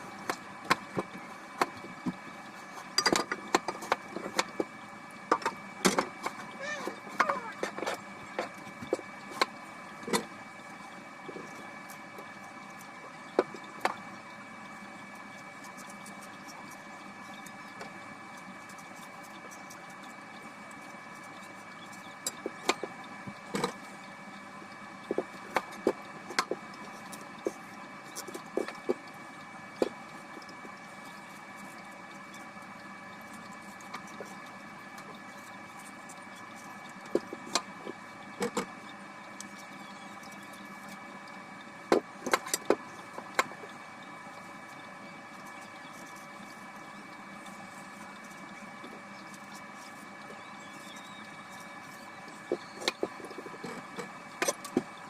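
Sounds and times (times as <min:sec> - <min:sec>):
steady machine hum: 0:00.0 - 0:55.0.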